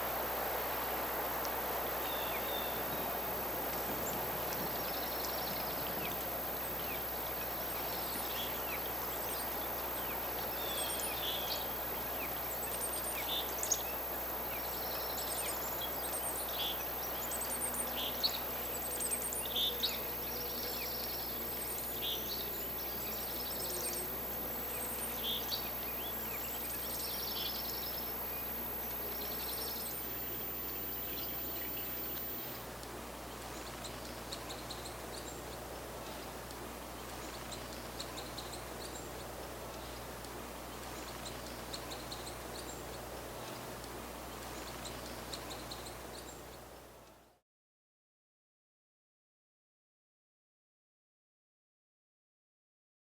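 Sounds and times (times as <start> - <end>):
birds chirping: 0.0 - 47.1
steady hiss: 0.0 - 47.2.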